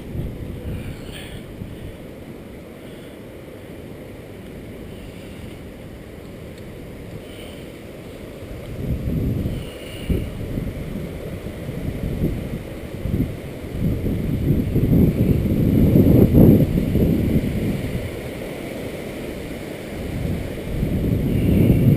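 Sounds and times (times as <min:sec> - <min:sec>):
gusty wind buffeting microphone: 0:00.0 - 0:21.9.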